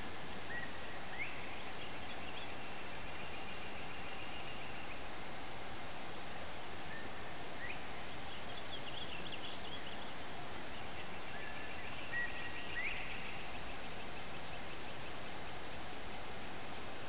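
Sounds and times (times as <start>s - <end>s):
steady background hiss: 0.0s - 17.0s
faint bird calls: 0.2s - 5.1s, 6.8s - 17.0s.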